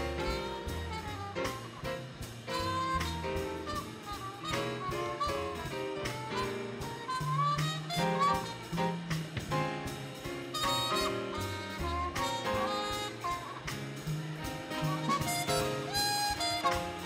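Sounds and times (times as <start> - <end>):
bass: 0.0 - 17.0
drums: 0.0 - 17.0
piano: 0.0 - 17.0
trumpet melody: 0.0 - 17.0.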